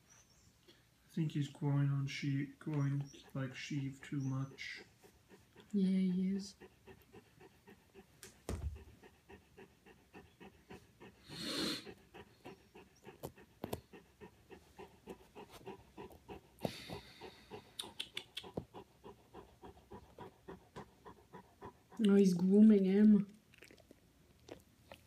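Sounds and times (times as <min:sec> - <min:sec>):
dog panting softly: 0:02.2 - 0:22.8.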